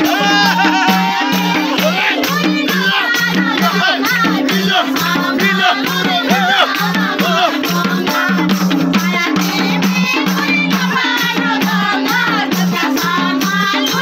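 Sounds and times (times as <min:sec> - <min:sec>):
hand drum beat: 0:00.0 - 0:14.0
jingling tambourine: 0:00.0 - 0:14.0
women singing together: 0:00.0 - 0:14.0.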